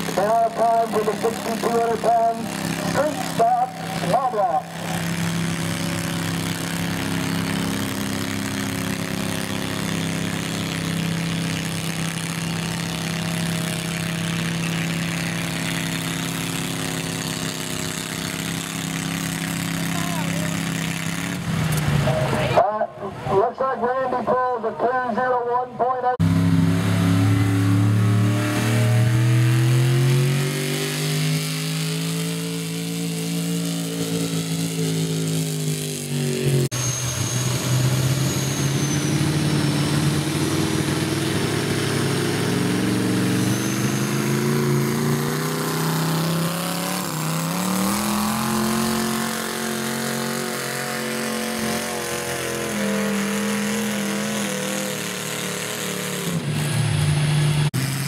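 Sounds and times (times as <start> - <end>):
tractor engine running hard: 0.0 - 23.2, 26.2 - 58.0.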